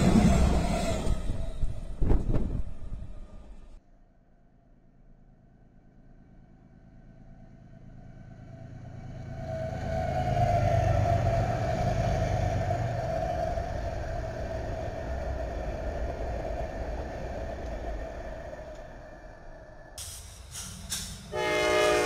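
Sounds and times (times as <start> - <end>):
locomotive engines rumbling: 0.0 - 3.8, 7.6 - 22.0.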